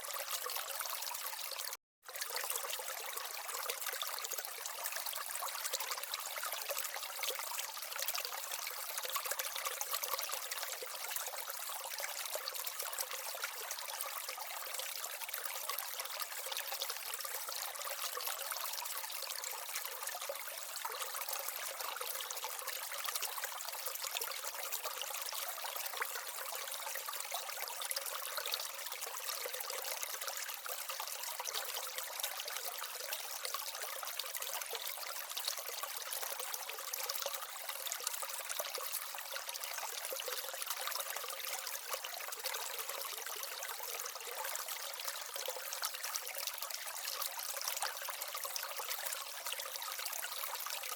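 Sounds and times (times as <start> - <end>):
water trickling down small waterfall: 0.0 - 50.9.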